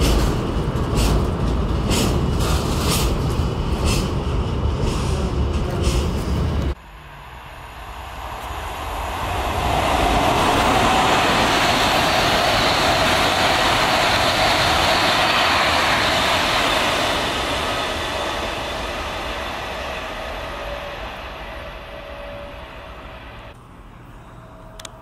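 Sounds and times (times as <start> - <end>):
electric train passing at speed: 0.0 - 25.0
wheels rushing on rail: 0.0 - 25.0.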